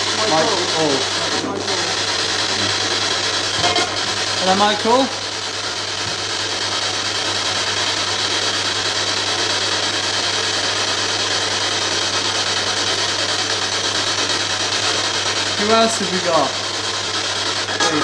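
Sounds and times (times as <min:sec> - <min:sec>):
loud radio static: 0:00.0 - 0:18.0.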